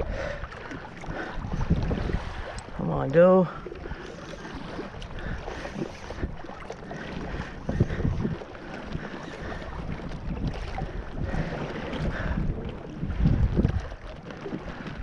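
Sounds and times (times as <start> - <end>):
water sloshing around kayak: 0.0 - 15.0
wind rumbling on microphone: 0.0 - 15.0.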